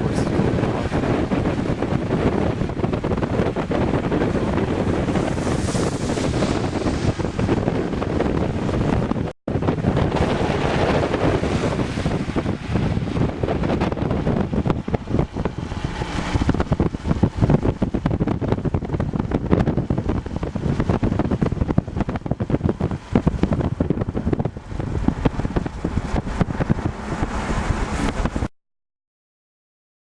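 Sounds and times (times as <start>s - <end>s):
car rumbling on road: 0.0s - 28.5s
wind buffeting microphone: 0.0s - 28.5s.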